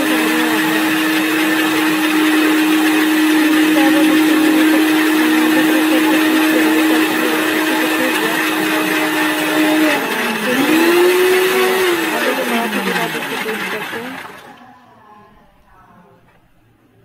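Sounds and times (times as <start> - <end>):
mixer grinder motor whining: 0.0 - 14.6.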